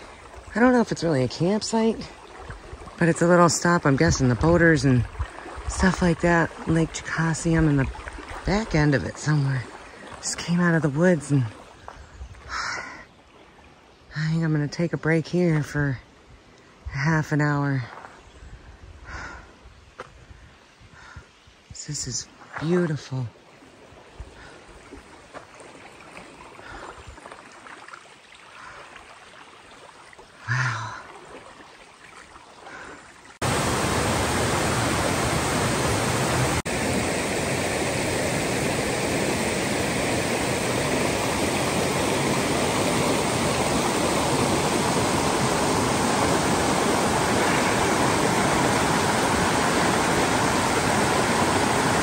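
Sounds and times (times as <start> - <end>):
stream rushing over stones: 0.0 - 12.0, 21.9 - 52.0.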